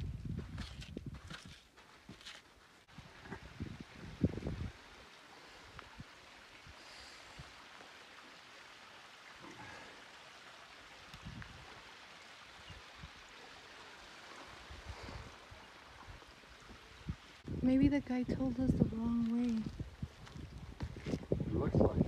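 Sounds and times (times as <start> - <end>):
flowing creek water: 2.6 - 22.0.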